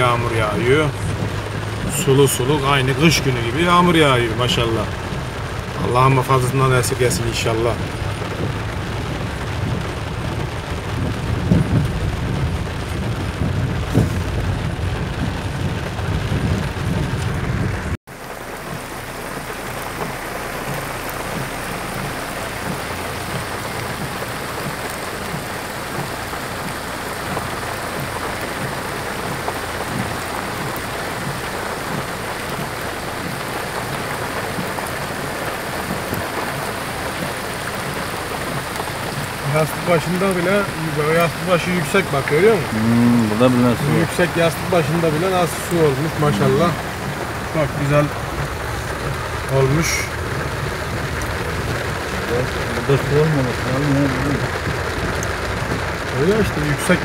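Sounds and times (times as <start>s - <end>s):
car driving rumble: 0.0s - 57.0s
heavy rain hissing: 0.0s - 57.0s.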